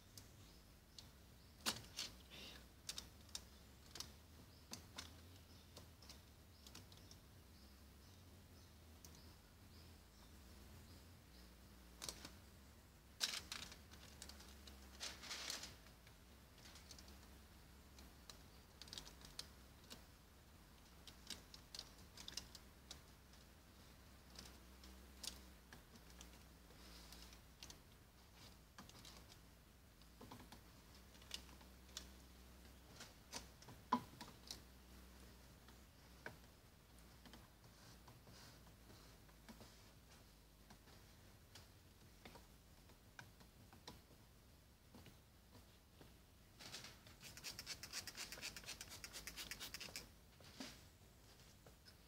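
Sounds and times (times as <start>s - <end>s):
light clicks taps and rustles: 0.1s - 7.4s, 11.8s - 12.6s, 13.2s - 52.0s.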